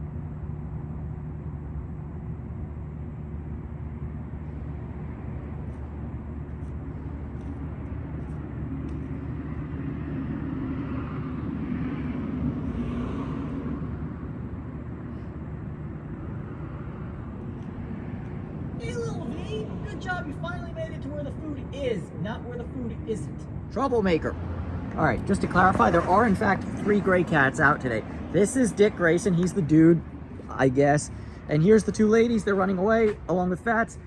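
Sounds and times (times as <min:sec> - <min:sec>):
vehicle engine hum: 0:00.0 - 0:34.0
vehicle passing: 0:04.2 - 0:34.0.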